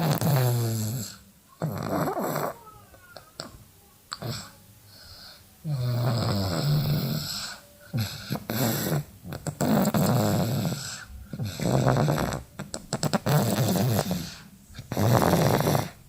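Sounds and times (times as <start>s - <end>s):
child snoring: 0.0s - 2.8s, 4.1s - 16.0s.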